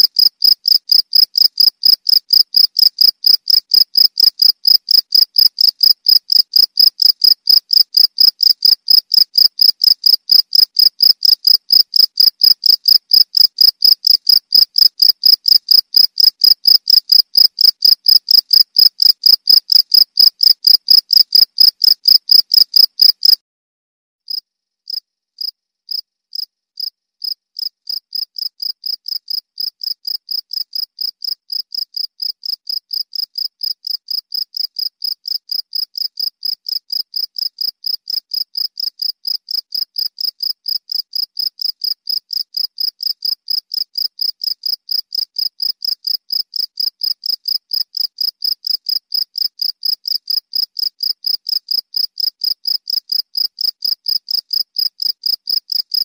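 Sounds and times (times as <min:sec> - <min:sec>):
cricket chirping: 0:00.0 - 0:23.4, 0:24.3 - 0:56.0.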